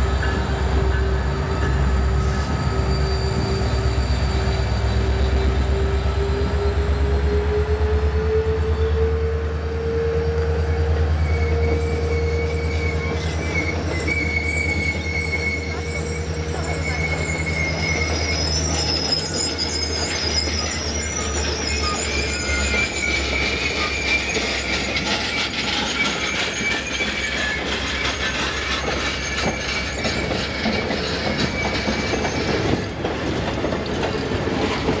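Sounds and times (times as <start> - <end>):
low train rumble: 0.0 - 35.0
train wheels squealing: 0.0 - 35.0.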